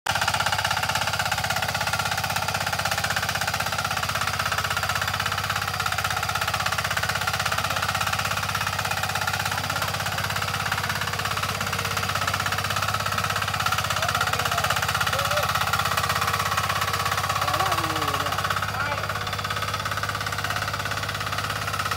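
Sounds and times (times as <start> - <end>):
diesel engine running: 0.1 - 21.9.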